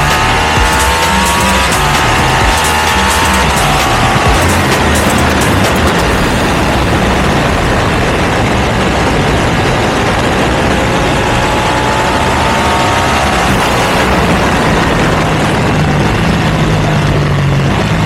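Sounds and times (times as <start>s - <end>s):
loud steady rushing noise: 0.0s - 18.0s
motorcycle engine revving: 0.0s - 18.0s.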